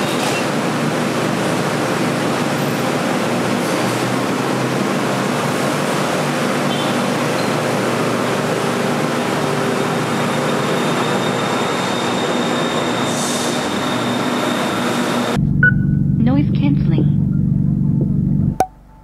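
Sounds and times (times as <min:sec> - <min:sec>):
train rumble and hiss: 0:00.0 - 0:15.4.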